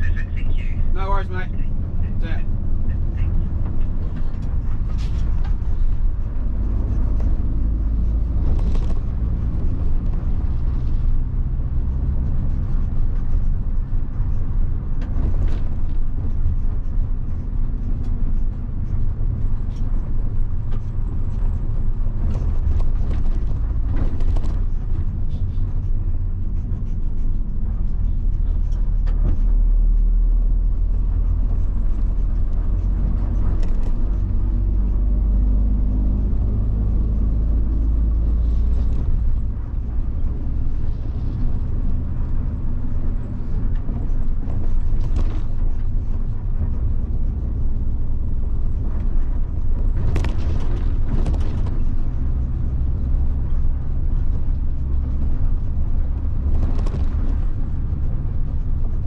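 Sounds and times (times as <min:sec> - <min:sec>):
diesel bus engine droning: 0:00.0 - 0:59.0.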